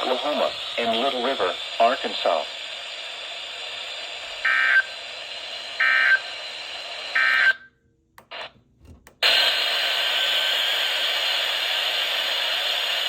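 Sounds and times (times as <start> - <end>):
radio static hiss: 0.0 - 7.6, 8.2 - 8.6, 9.2 - 13.0.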